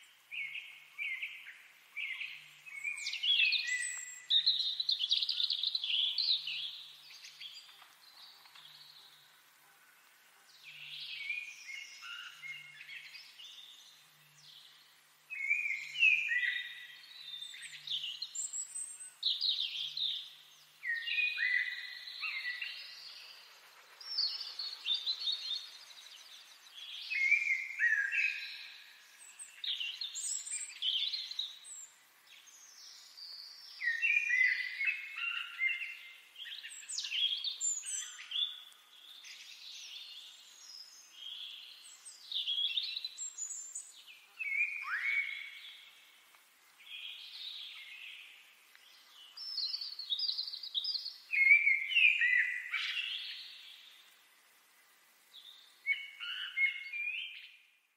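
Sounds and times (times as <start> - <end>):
songbirds singing: 0.0 - 57.9.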